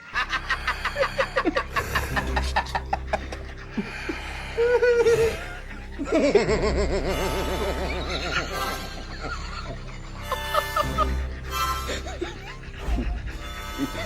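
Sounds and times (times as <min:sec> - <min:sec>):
bursts of laughter: 0:00.0 - 0:14.0.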